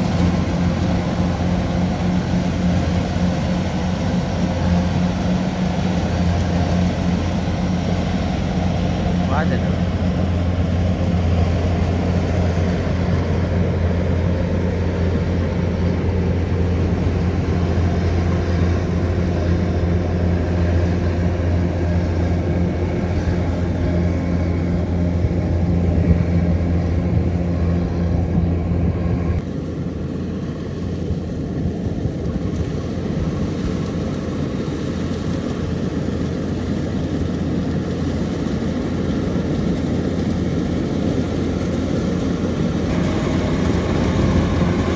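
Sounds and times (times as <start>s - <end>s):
combine harvester diesel engine: 0.0s - 44.9s
threshing machinery noise: 0.0s - 44.9s.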